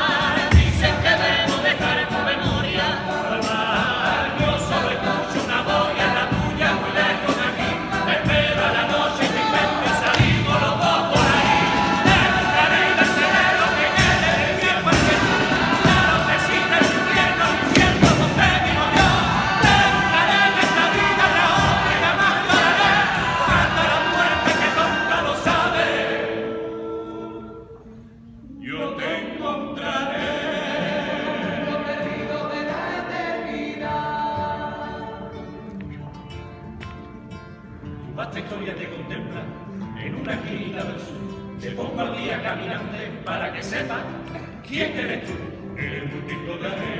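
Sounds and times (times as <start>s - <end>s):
male choir singing: 0.0s - 27.8s, 28.5s - 35.5s, 38.2s - 46.9s.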